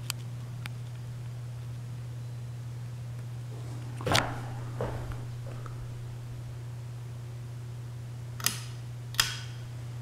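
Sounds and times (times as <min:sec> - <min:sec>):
ceiling fan humming: 0:00.0 - 0:10.0.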